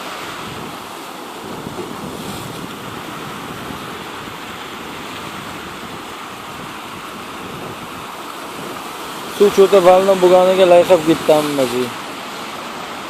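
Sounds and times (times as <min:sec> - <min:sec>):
sea waves washing in: 0:00.0 - 0:13.0
wind: 0:00.0 - 0:13.0.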